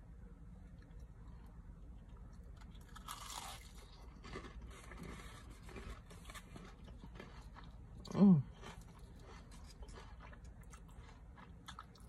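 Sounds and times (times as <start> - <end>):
crunching and chewing: 0.7 - 12.0.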